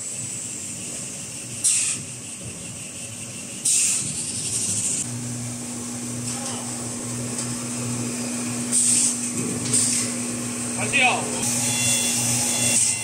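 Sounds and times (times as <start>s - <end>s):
machine humming: 0.0s - 13.0s
steady humming tone: 0.0s - 13.0s.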